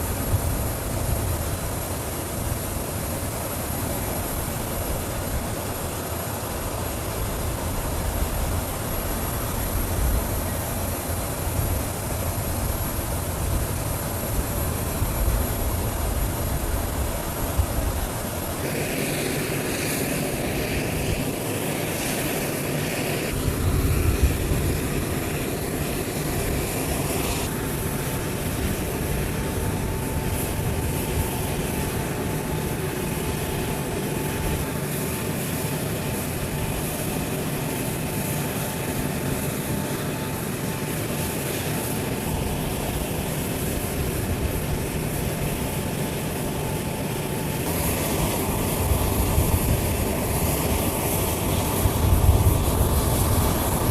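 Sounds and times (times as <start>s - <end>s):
jet engines running: 0.0s - 53.9s
thin steady whine: 0.0s - 53.9s.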